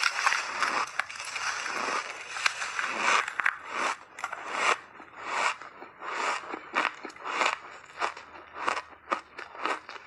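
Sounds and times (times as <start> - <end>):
ice crunching being chewed: 0.0 - 10.0.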